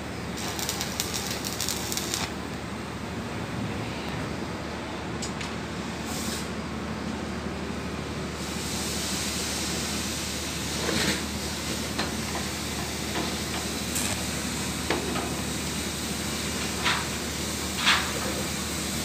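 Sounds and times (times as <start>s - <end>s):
machinery hissing and humming: 0.0s - 19.0s.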